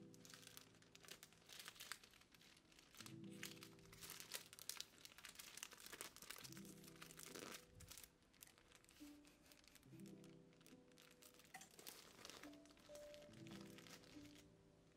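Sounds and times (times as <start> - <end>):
plastic sleeve crinkling: 0.0 - 14.6
soft lo-fi music: 0.0 - 14.9.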